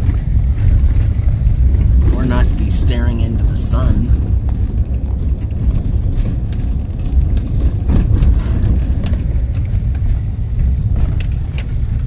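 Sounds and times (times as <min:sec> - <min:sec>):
knocks and rattles over bumps: 0:00.0 - 0:12.0
vehicle road rumble: 0:00.0 - 0:12.0.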